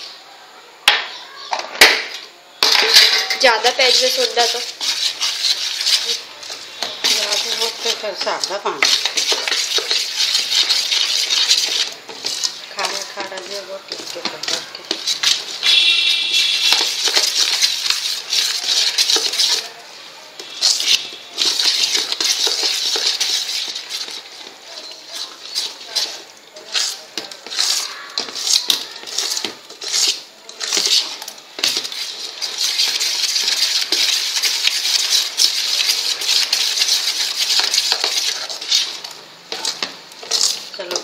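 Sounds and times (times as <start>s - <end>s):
spoon scraping metal bowl: 2.6s - 19.8s, 20.4s - 41.0s.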